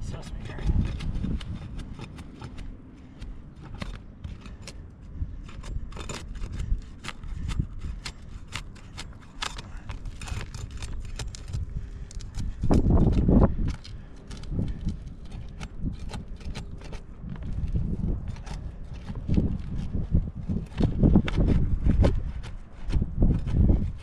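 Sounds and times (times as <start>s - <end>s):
wind rumbling on microphone: 0.0s - 24.0s
hand tool prying at shingles: 0.3s - 24.0s.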